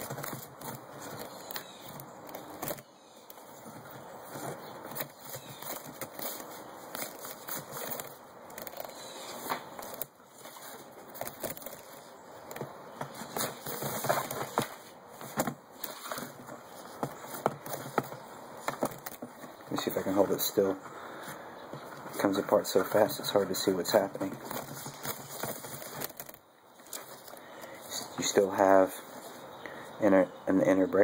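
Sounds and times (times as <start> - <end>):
cord clicking and scraping: 0.0 - 28.2
paracord rustling and crackling: 0.0 - 29.6.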